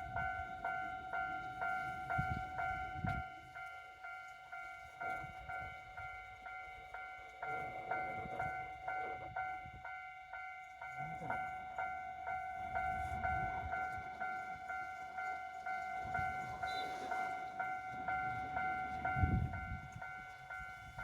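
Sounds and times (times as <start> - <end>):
level crossing alarm bell clanging: 0.0 - 21.0.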